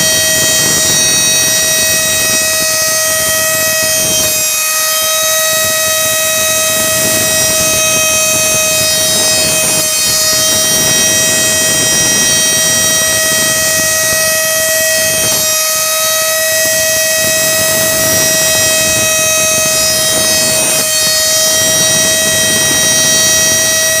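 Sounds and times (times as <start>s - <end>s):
spindle motor high-pitched whine: 0.0s - 24.0s.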